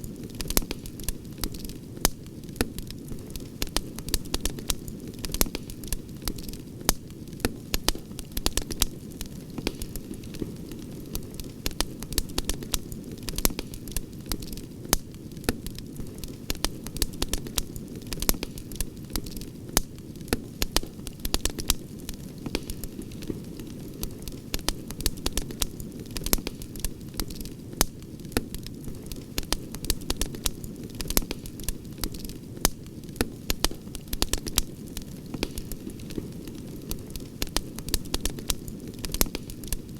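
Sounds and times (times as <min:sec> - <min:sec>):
campfire crackling and popping: 0:00.0 - 0:39.9
low rush of burning fire: 0:00.0 - 0:39.9.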